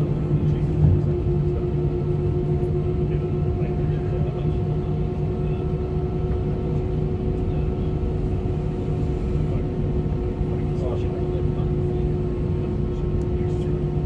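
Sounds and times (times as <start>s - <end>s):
engine hum: 0.0s - 14.0s
jet engines low rumble: 0.0s - 14.0s.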